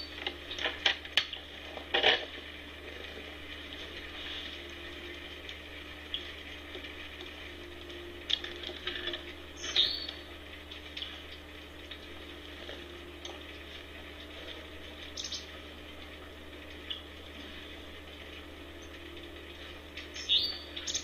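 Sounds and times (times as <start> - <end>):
crackles: 0.0 - 21.0.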